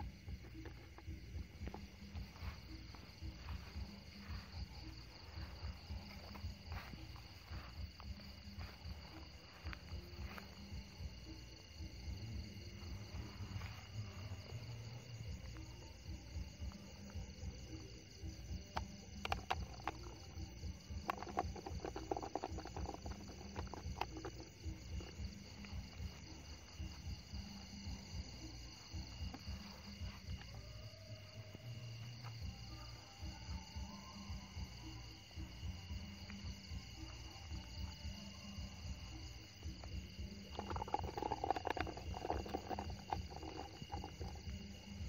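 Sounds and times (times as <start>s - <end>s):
crickets trilling: 0.0s - 45.0s.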